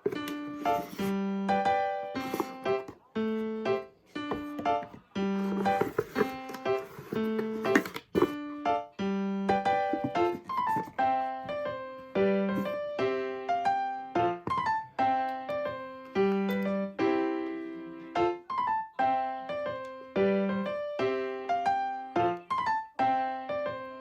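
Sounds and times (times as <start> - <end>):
electric piano melody: 0.0 - 24.0.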